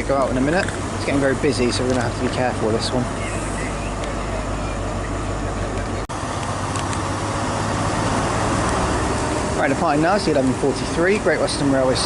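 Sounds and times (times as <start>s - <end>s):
diesel train engine humming: 0.0s - 12.0s.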